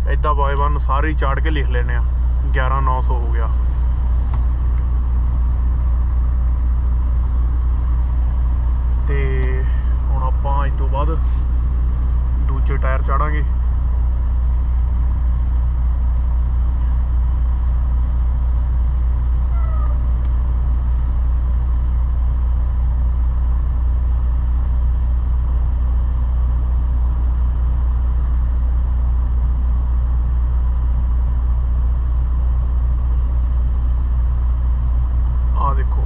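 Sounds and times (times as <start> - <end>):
diesel truck engine rumbling: 0.0 - 36.0.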